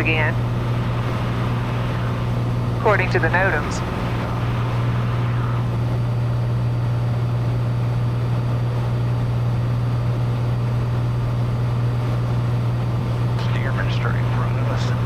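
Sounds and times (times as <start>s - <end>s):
airplane engine drone in cabin: 0.0s - 15.0s.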